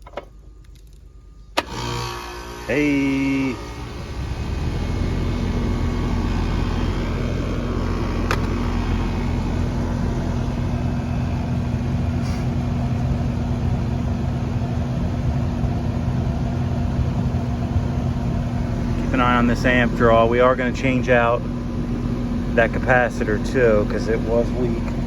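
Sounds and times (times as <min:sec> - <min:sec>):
compressor electric hum: 0:00.0 - 0:25.0
condenser fan rushing air: 0:01.6 - 0:25.0.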